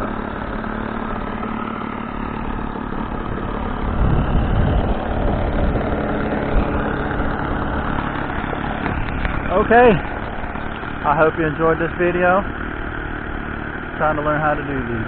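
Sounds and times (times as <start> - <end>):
model airplane engine idling: 0.0 - 15.0.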